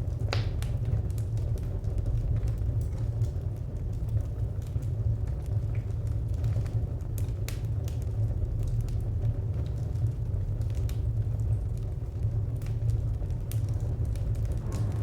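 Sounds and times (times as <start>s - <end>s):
fire crackling: 0.0s - 15.0s.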